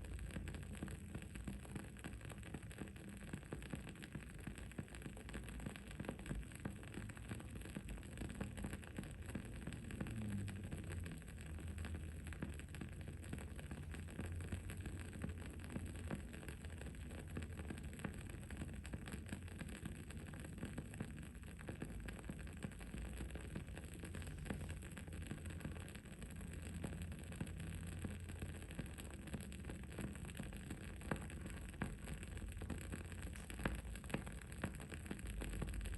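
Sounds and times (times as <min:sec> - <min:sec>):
candle crackling: 0:00.0 - 0:35.9.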